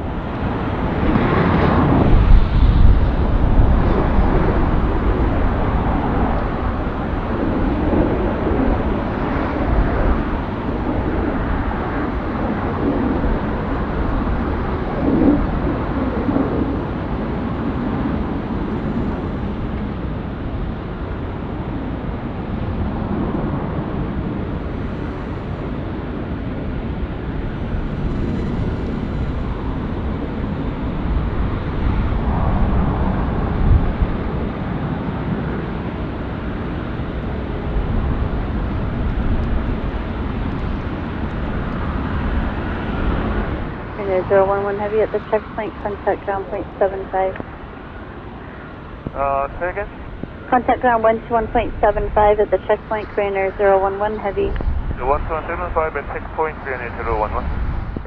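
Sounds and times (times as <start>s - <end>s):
jet engines taxiing: 0.0s - 58.0s.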